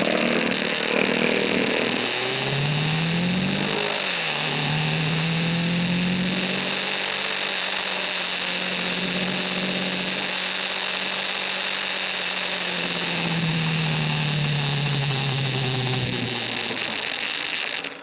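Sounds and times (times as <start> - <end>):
motorcycle engine cruising: 0.0 - 18.0
steady high hiss: 0.0 - 18.0.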